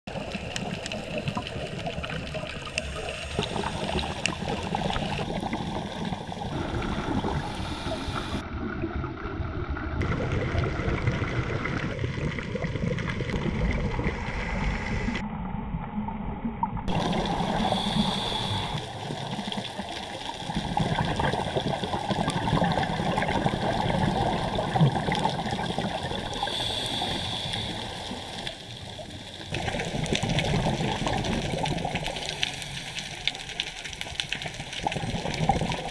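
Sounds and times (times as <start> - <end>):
underwater gurgling rush: 0.1 - 35.9.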